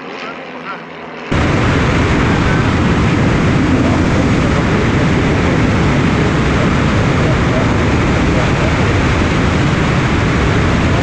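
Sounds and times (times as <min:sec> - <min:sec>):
propeller plane engine: 0:00.0 - 0:11.0
airflow rushing: 0:01.3 - 0:11.0.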